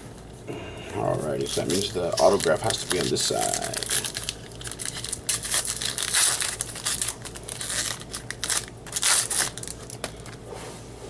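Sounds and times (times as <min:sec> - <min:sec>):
plastic wrapper crinkling: 0:01.0 - 0:10.4.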